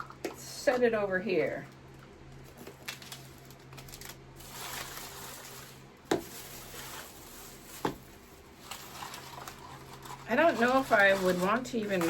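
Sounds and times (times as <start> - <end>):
packaging rustling: 1.8 - 12.0.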